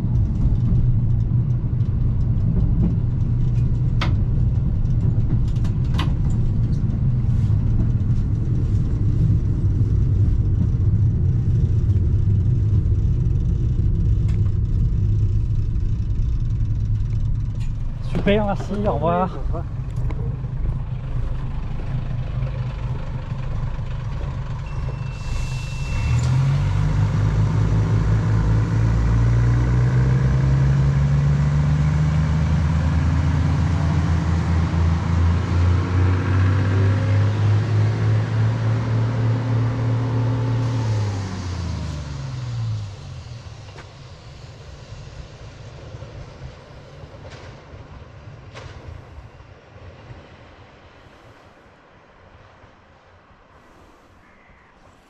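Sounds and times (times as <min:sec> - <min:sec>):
moving train running noise: 0:00.0 - 0:55.0
railcar engine under power: 0:00.0 - 0:55.0.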